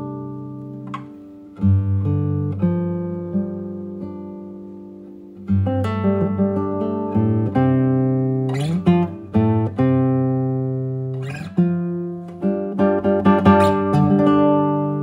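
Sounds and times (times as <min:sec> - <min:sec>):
acoustic guitar slow chords: 0:00.0 - 0:15.0.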